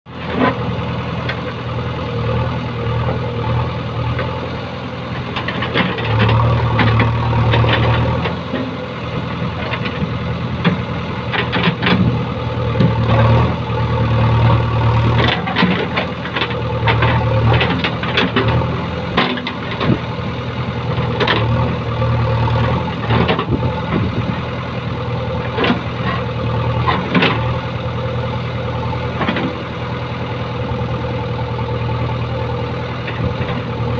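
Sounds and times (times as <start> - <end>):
diesel engine under load: 0.1 - 33.9.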